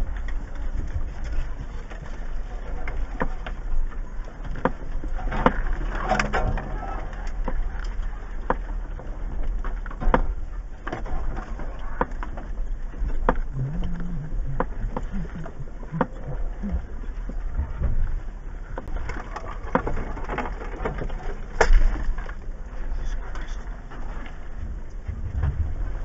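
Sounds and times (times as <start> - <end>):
short low hum: 0.0 - 19.4, 22.0 - 26.0
knocks and rattles over rocks: 0.0 - 26.0
vehicle engine low rumble: 0.0 - 26.0.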